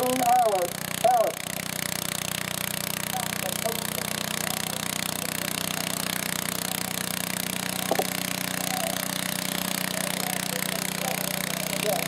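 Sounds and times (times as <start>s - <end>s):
tractor engine running hard: 0.0s - 12.0s.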